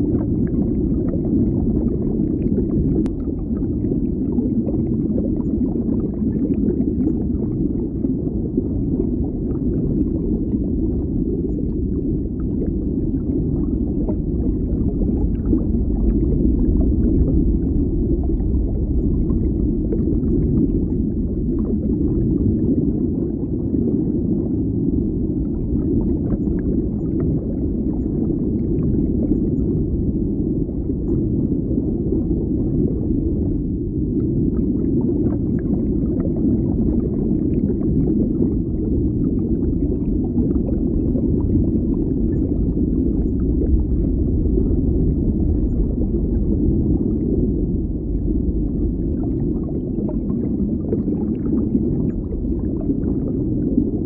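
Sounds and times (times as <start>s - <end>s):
underwater bubbling and gurgling: 0.0s - 54.0s.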